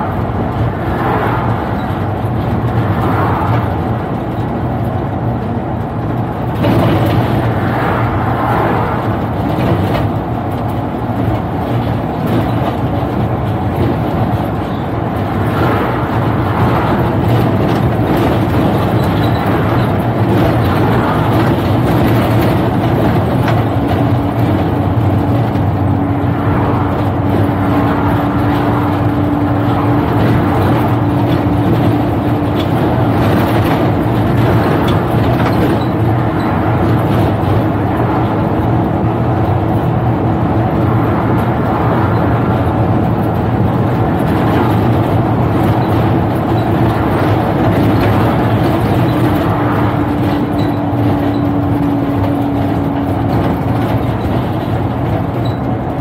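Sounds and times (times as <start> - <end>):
bus engine and drivetrain hum: 0.0 - 56.0
road and tyre noise: 0.0 - 56.0.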